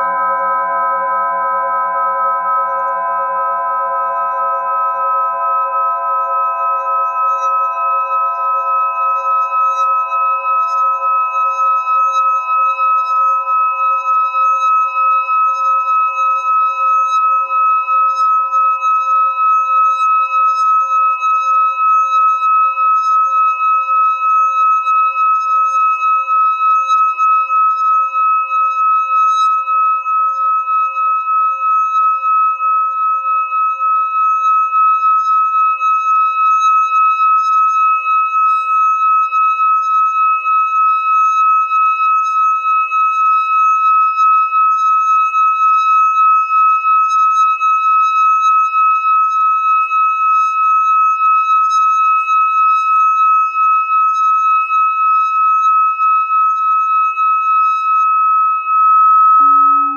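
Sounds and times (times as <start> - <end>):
singing bowl ringing tone: 0.0 - 59.9.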